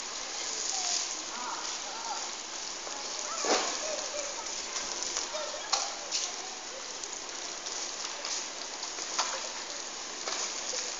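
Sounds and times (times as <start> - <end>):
faint voices: 0.0 - 10.9
steady rain falling: 0.0 - 10.9.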